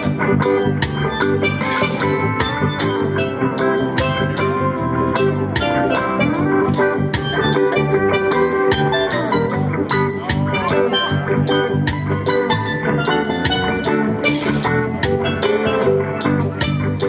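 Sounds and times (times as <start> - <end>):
drum and cymbal strikes: 0.0 - 16.9
live reggae band playing: 0.0 - 17.0.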